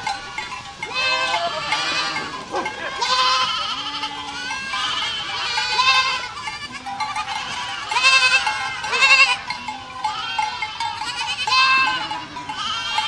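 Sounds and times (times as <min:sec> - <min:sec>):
goats bleating: 0:00.0 - 0:13.0.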